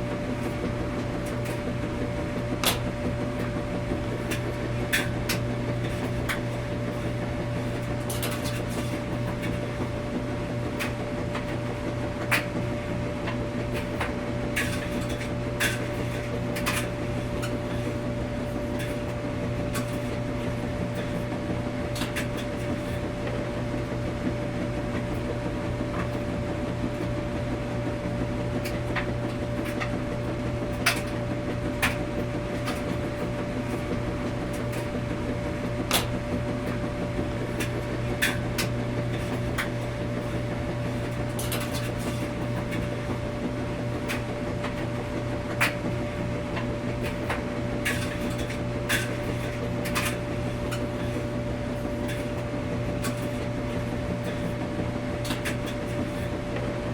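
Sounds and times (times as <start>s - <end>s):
washing machines humming: 0.0s - 56.9s.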